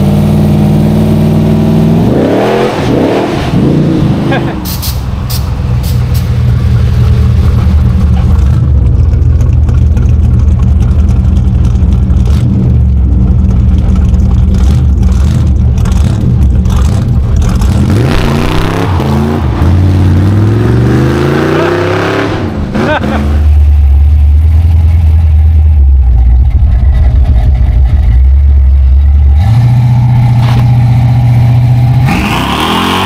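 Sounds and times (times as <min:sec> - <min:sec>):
car engine rumbling and revving: 0:00.0 - 0:33.0.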